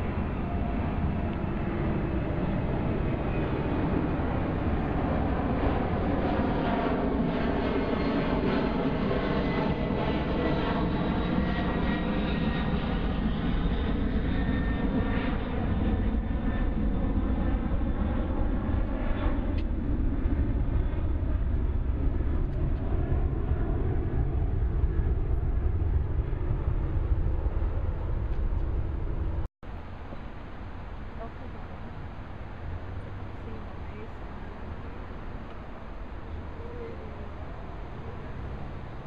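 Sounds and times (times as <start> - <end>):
aircraft engine drone overhead: 0.0 - 39.0.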